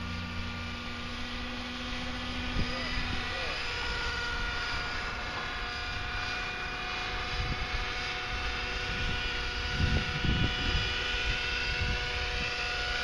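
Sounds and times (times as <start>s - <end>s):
model helicopter engine whining: 0.0s - 13.0s.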